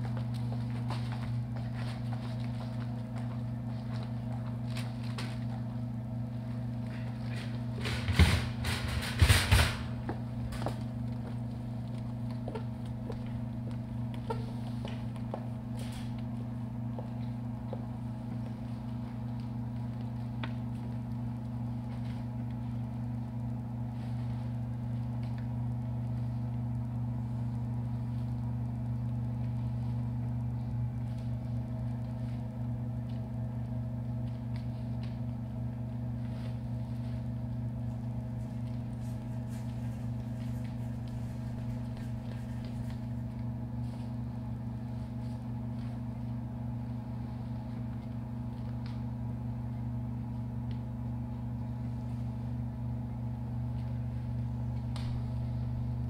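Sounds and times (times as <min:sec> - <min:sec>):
low droning hum: 0:00.0 - 0:56.0.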